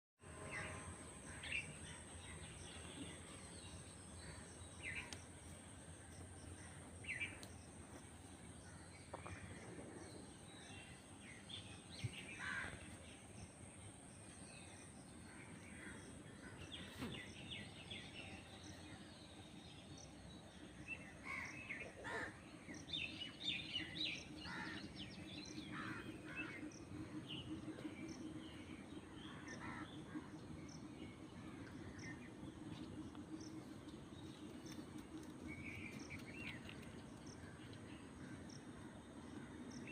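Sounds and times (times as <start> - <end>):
low pulsing hum: 0.2 - 39.9
steady background noise: 0.2 - 39.9.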